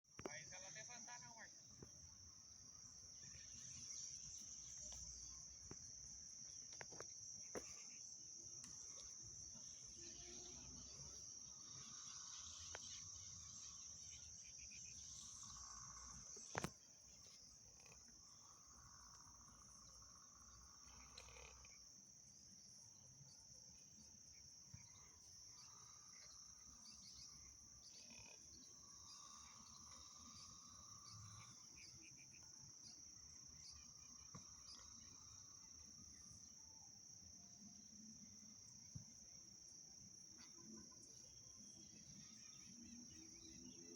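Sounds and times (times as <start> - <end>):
insect chorus trilling: 0.1 - 43.9.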